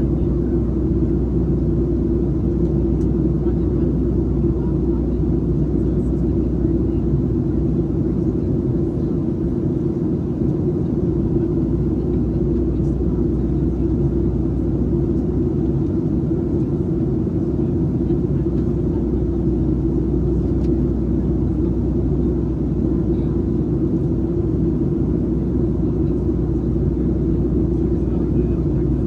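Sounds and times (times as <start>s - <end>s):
airflow over fuselage: 0.0s - 29.0s
jet engine cabin rumble: 0.0s - 29.0s.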